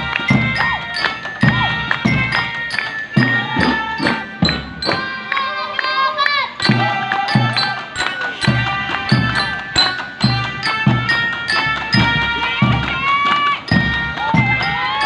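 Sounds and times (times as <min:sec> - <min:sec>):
sustained wind or bell melody: 0:00.0 - 0:15.0.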